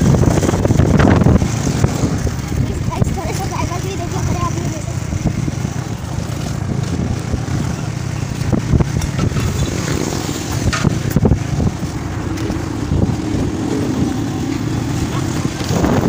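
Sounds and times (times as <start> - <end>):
motorcycle engine rumble: 0.0 - 16.0
wind noise on microphone: 0.0 - 16.0.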